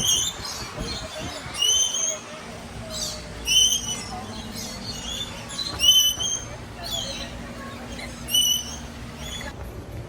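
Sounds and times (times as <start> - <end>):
parrot shrill calls: 0.0 - 9.5
faint murmur of people: 0.0 - 9.6.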